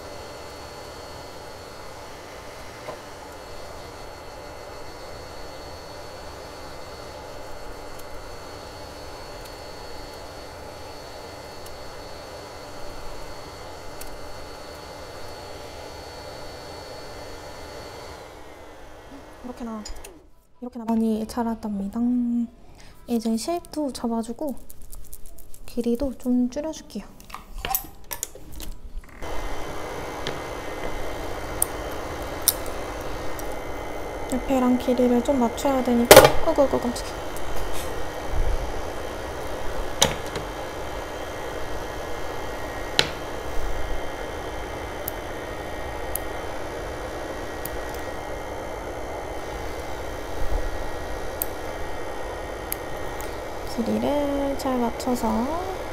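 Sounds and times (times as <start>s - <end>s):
small electric motor whirring: 0.0s - 20.2s, 29.1s - 55.9s
fan running with even hiss: 0.0s - 20.3s, 27.6s - 55.9s.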